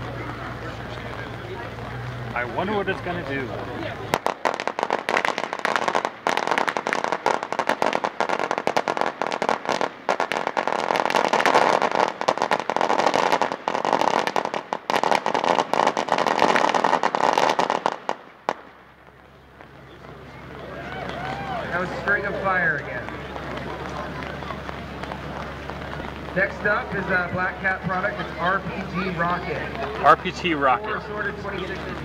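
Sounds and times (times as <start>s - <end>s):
firecrackers popping: 0.0s - 32.0s.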